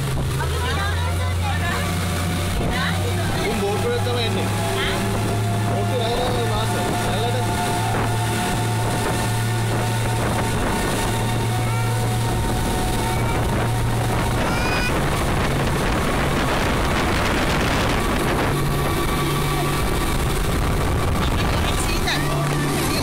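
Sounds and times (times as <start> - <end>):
boat wake rushing: 0.0 - 23.0
speedboat engine drone: 0.0 - 23.0
wind on microphone: 0.0 - 23.0.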